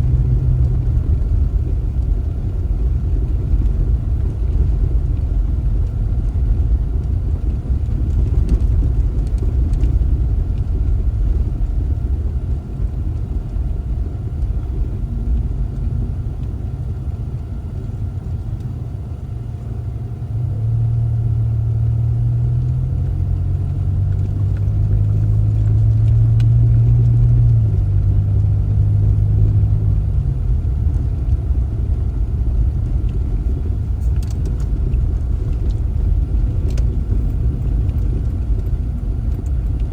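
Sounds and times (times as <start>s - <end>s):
car engine hum: 0.0s - 39.9s
road rumble: 0.0s - 39.9s.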